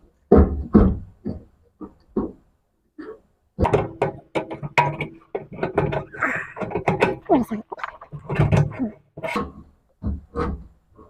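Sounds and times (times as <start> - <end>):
irregular knocks and clunks: 0.0 - 11.0.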